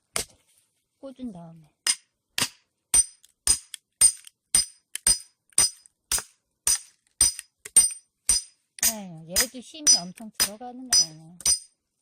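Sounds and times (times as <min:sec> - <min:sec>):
hammer striking hatchet: 0:01.8 - 0:11.8.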